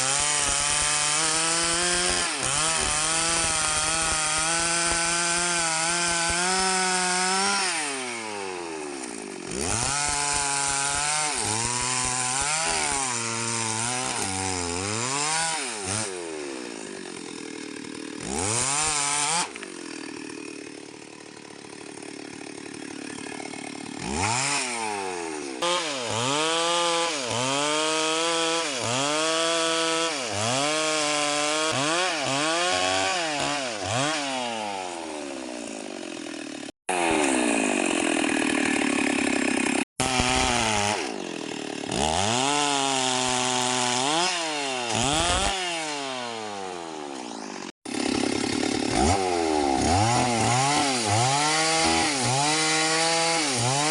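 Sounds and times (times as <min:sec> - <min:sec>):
chainsaw sawing wood: 0:00.0 - 0:53.9.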